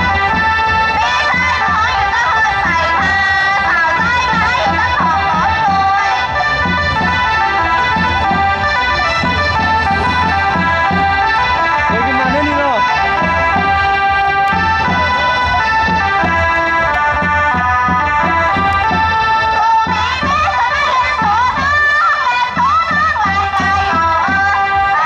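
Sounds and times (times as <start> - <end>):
accordion-toned dance melody: 0.0 - 25.0
steady beat: 0.0 - 25.0.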